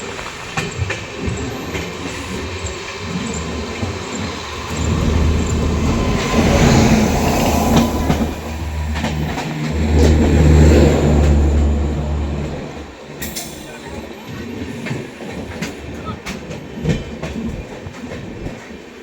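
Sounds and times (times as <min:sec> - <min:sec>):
train carriage rumbling: 0:00.0 - 0:19.0
wheels clacking over rail joints: 0:00.0 - 0:19.0.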